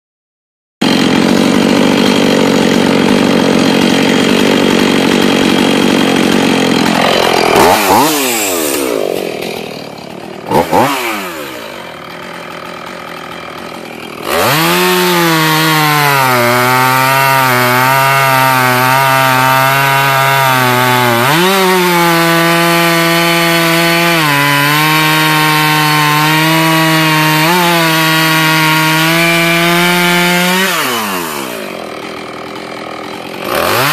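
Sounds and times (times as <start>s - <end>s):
chainsaw cutting log: 0.8s - 33.9s.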